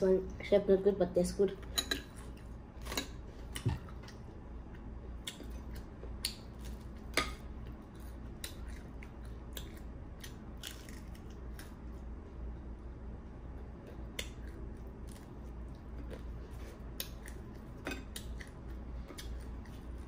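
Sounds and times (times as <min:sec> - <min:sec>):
low steady hum: 0:00.0 - 0:20.0
person chewing crunchy bread: 0:02.1 - 0:12.2, 0:13.5 - 0:20.0.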